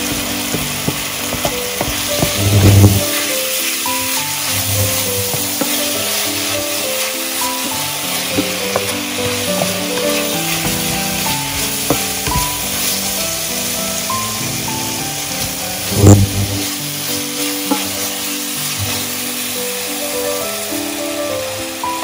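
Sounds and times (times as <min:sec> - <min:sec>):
wooden spatula scraping pan: 0:00.0 - 0:14.1, 0:15.2 - 0:19.2
meat sizzling in a pan: 0:00.0 - 0:22.0.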